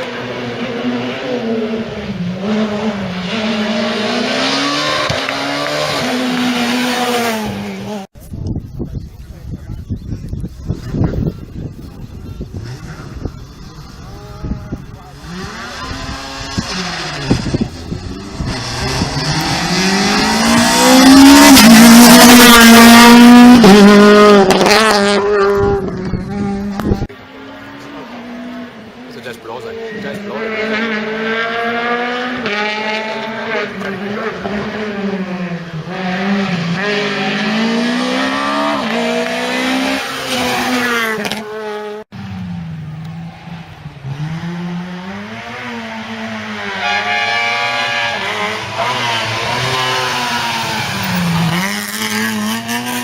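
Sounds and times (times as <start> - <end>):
rally car engine revving: 0.0 - 8.1, 10.6 - 53.0.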